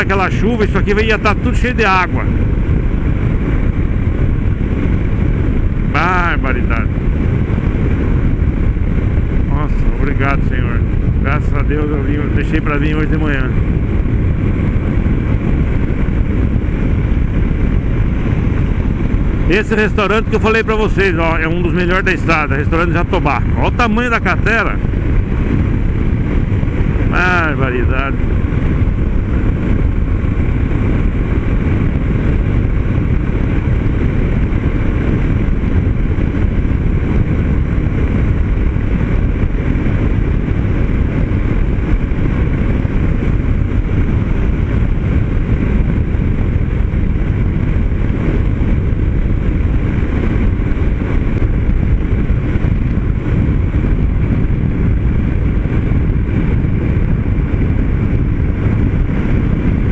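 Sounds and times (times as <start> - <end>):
motorcycle engine droning: 0.0 - 59.9
wind rush on microphone: 0.0 - 59.9.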